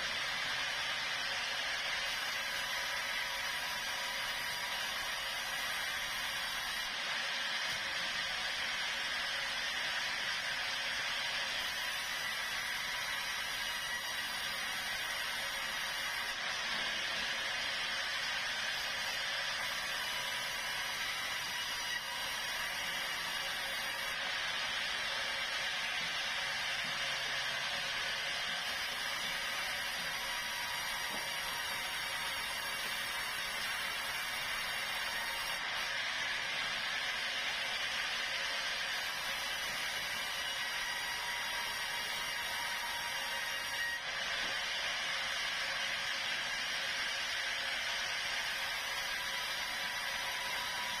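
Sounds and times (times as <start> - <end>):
saw cutting through log: 0.0 - 51.0.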